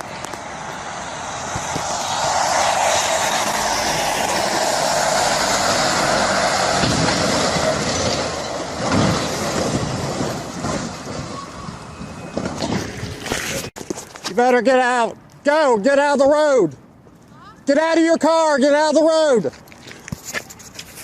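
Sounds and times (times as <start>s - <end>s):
road and tyre noise: 0.0s - 21.0s.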